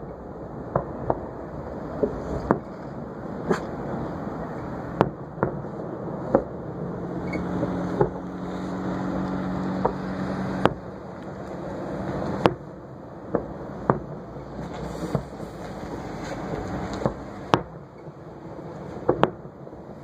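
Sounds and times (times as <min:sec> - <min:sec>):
fireworks bursting: 0:00.0 - 0:20.0
steady background rumble: 0:00.0 - 0:20.0.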